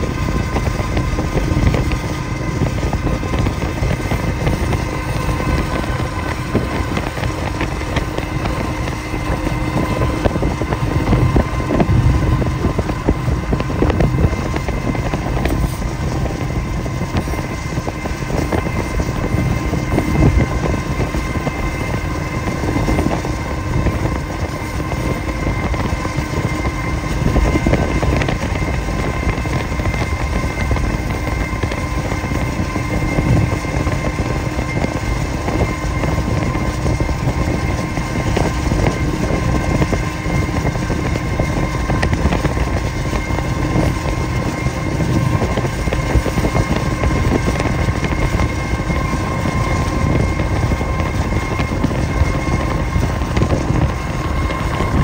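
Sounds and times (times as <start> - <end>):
constant hums: 0.0 - 55.0
freight train moving: 0.0 - 55.0
wind noise: 0.0 - 55.0.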